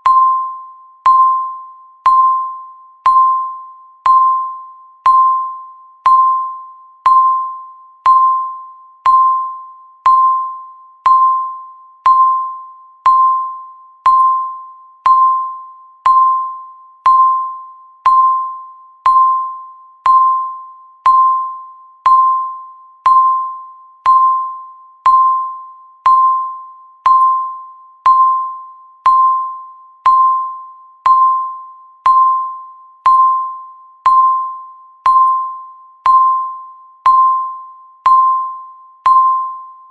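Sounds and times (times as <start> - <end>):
timer beep: 0.0 - 39.9.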